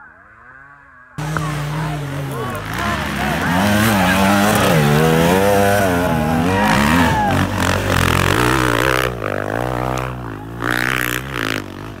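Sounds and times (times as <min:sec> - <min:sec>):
dirt bike engine revving: 0:01.2 - 0:12.0.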